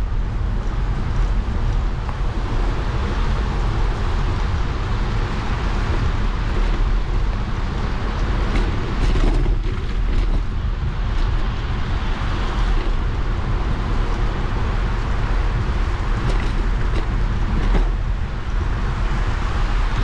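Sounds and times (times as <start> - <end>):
hiss of tyres and rain: 0.0 - 20.0
wind rumble on microphone: 0.0 - 20.0.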